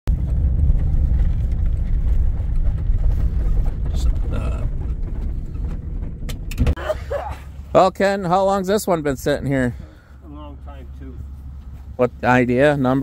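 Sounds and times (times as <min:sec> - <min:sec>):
truck engine and gravel road rumble: 0:00.1 - 0:13.0.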